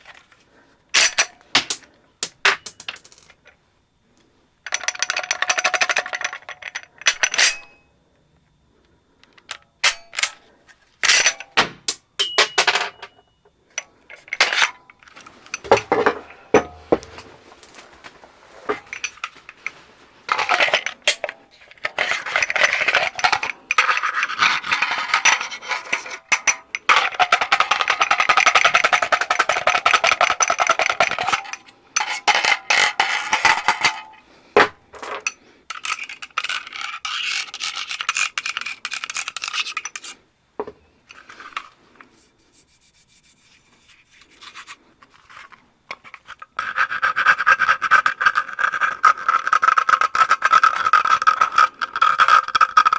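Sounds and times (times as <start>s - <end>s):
pistol parts clicking and rattling: 0.9s - 3.6s, 4.6s - 7.9s, 9.2s - 13.2s, 13.8s - 17.2s, 18.7s - 40.2s, 44.5s - 52.9s.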